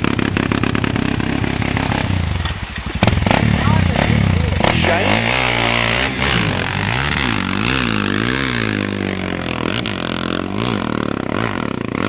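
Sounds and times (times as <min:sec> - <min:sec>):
atv engine revving: 0:00.0 - 0:12.0
water and mud splashing: 0:00.0 - 0:12.0.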